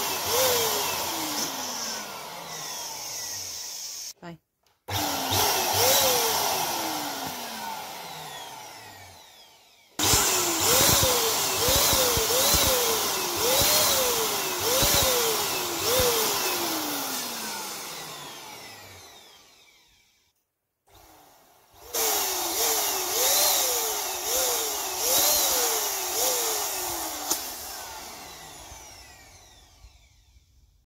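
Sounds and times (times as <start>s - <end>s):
electric balloon pump motor whining: 0.0s - 4.2s, 4.9s - 30.8s.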